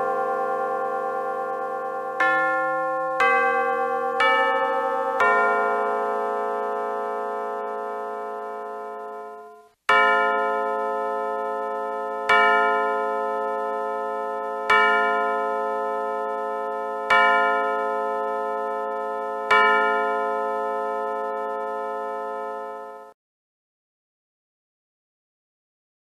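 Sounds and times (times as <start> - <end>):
clock chime gong strikes: 0.0 - 23.1.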